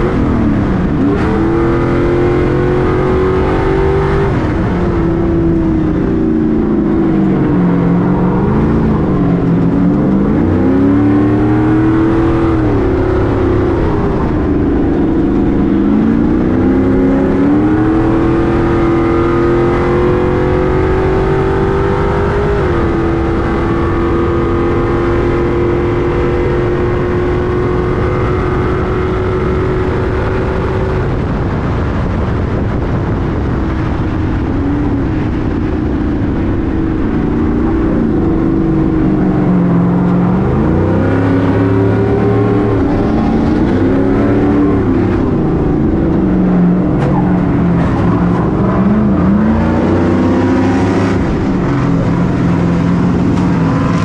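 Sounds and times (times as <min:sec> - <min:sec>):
race truck engine roaring: 0:00.0 - 0:54.0.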